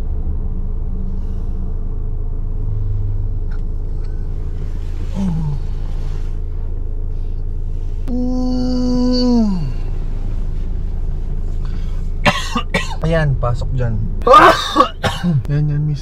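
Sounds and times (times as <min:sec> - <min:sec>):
engine and road rumble in cabin: 0:00.0 - 0:16.0.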